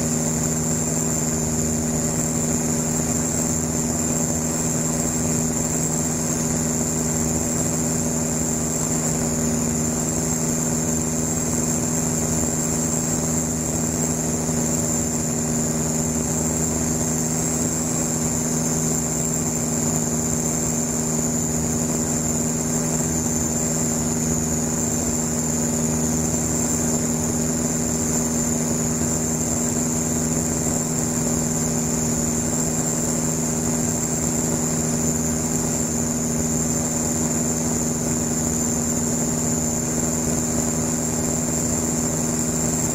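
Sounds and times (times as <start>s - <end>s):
aircraft engine and propeller droning: 0.0s - 42.9s
high-pitched whine: 0.0s - 42.9s.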